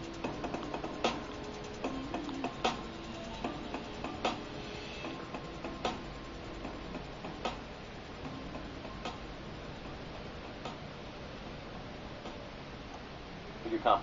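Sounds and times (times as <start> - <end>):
hip-hop backing track: 0.0 - 11.6.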